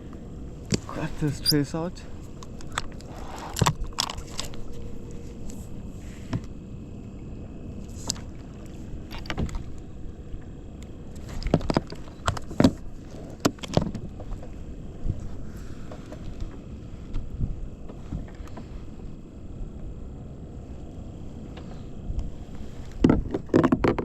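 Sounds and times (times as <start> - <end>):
water and wind rushing: 0.0 - 24.0.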